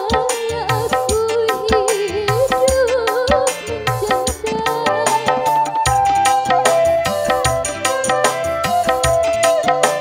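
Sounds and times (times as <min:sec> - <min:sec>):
hand drum beat: 0:00.0 - 0:10.0
wavering melody with vibrato: 0:01.2 - 0:10.0.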